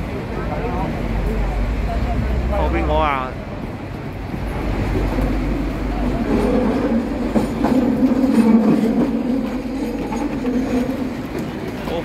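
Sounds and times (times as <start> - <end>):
tram hum: 0.0 - 12.0
tram wheels rumbling on rails: 0.0 - 12.0.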